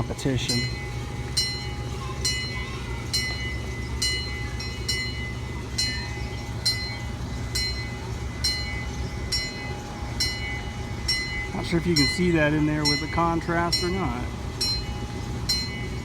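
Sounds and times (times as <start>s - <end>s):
train low hum: 0.0s - 16.0s.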